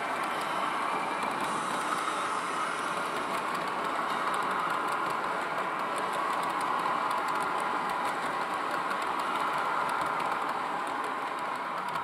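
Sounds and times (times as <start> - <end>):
model train wheels rolling on rails: 0.0 - 12.0.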